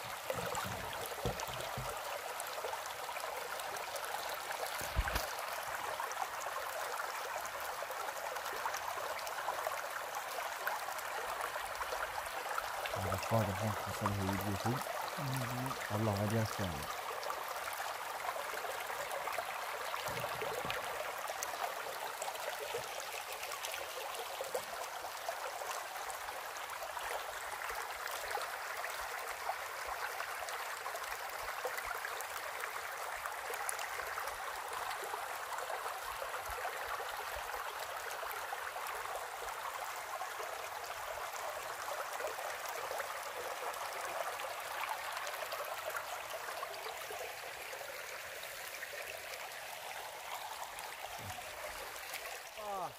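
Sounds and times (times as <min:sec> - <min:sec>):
stream babbling over stones: 0:00.0 - 0:52.9.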